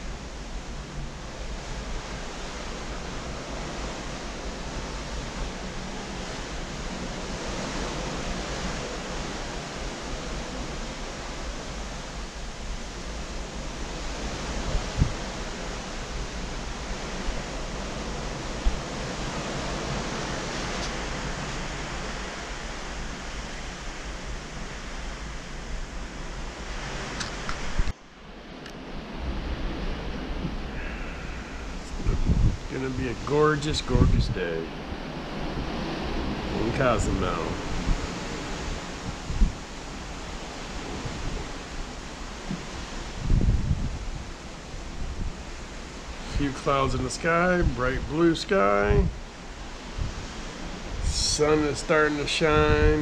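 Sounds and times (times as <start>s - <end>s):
wind and sea water rushing: 0.0s - 53.0s
wind buffeting on microphone: 0.0s - 53.0s.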